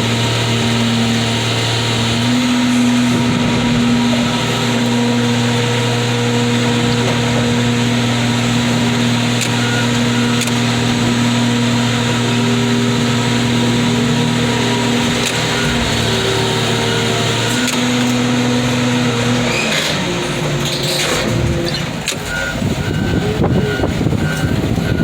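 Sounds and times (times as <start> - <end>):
heavy machinery humming: 0.0 - 25.0.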